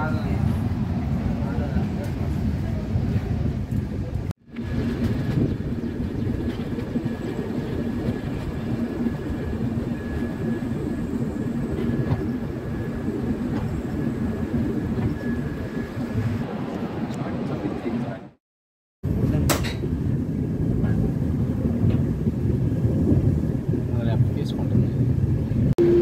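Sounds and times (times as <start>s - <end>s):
train rumbling and rattling: 0.0s - 18.2s, 19.1s - 26.0s.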